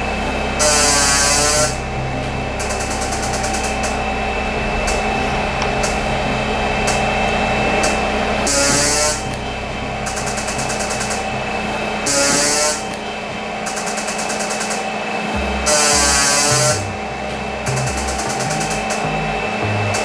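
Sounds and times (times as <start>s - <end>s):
rapid clicking pulses: 0.0s - 20.0s
steady electronic tone: 0.0s - 20.0s.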